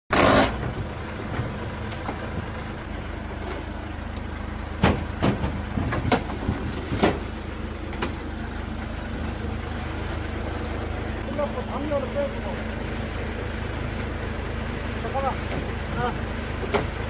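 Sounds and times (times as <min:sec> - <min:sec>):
vehicle engine idling: 0:00.1 - 0:17.0.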